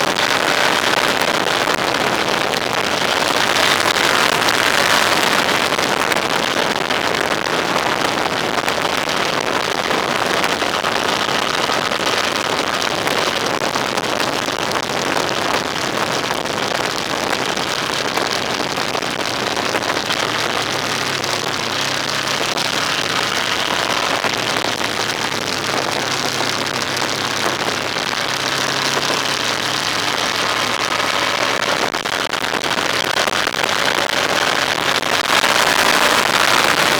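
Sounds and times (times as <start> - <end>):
road and wind noise: 0.0 - 36.9.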